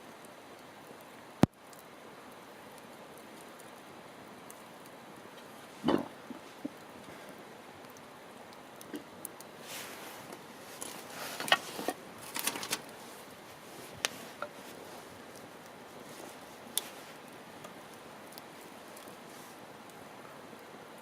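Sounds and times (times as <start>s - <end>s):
campfire crackles and pops: 0.0s - 21.0s
campfire hissing: 0.0s - 21.0s.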